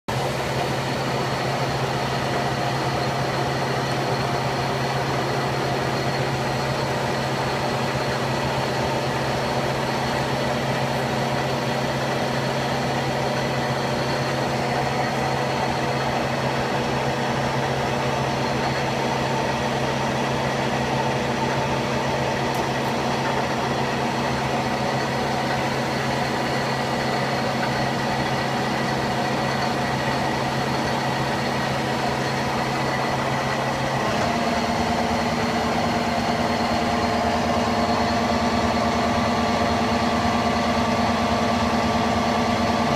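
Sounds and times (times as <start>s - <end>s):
high machine whines: 0.1s - 42.9s
machine hum: 0.1s - 42.9s.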